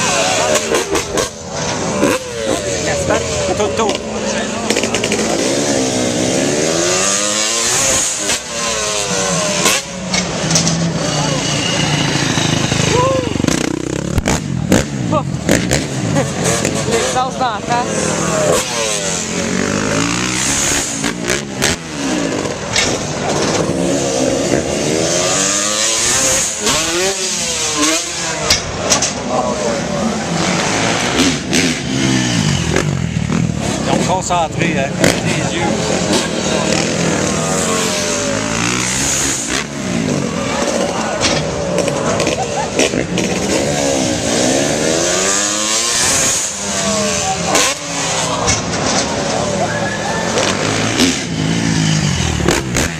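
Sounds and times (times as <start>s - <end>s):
dirt bike engines revving: 0.0s - 52.9s
loud rush of noise: 0.0s - 52.9s.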